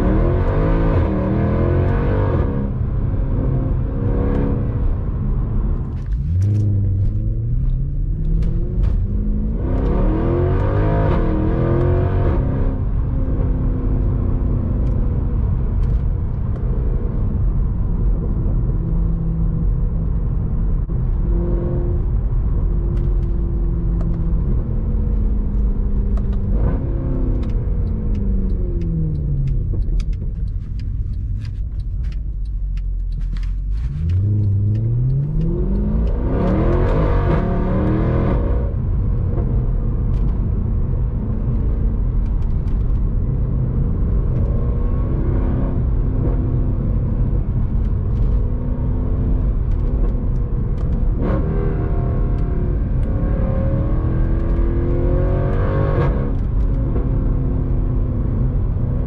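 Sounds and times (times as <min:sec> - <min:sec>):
car engine revving and accelerating: 0:00.0 - 0:59.0.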